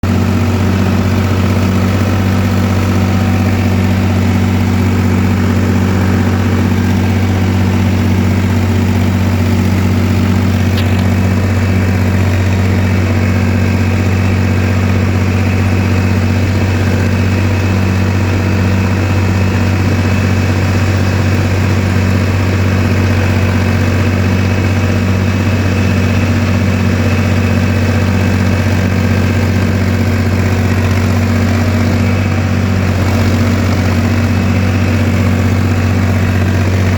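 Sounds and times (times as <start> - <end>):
tractor diesel engine idling: 0.0 - 36.9.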